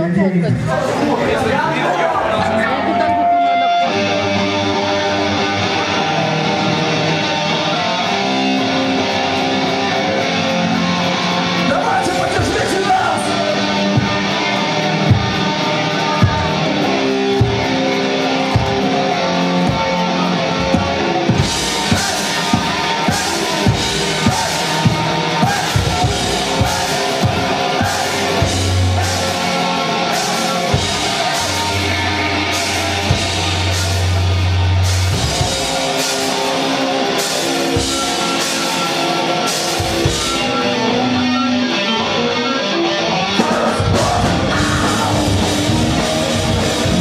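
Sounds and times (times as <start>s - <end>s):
guitar chords: 0.0s - 47.0s.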